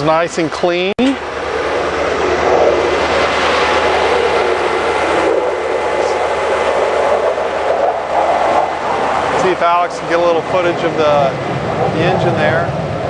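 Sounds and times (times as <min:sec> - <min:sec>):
jet aircraft flying over: 0:00.0 - 0:13.0.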